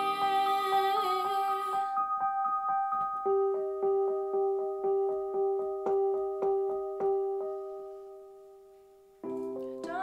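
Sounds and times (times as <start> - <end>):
digital piano chords: 0.0 - 10.0.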